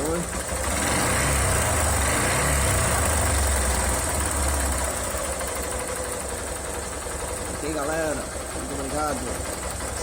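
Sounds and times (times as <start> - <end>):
motorcycle engine knocking: 0.0 - 1.0, 2.8 - 10.0.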